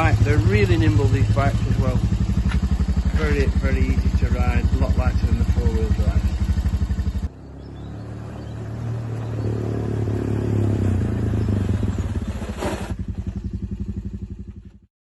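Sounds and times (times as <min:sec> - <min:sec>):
quad bike engine running: 0:00.0 - 0:14.9.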